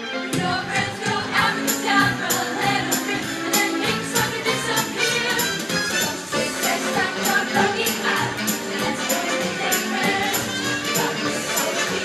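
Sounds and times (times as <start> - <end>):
choir singing with accompaniment: 0.1 - 12.0.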